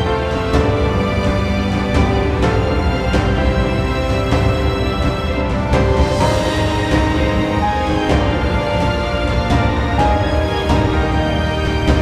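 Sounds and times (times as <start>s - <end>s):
soundtrack music with held chords: 0.0s - 12.0s.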